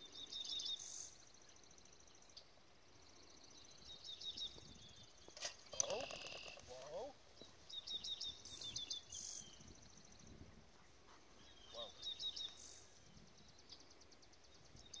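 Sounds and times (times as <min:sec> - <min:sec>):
open field ambience: 0:00.0 - 0:15.0
songbird chirping: 0:00.0 - 0:15.0.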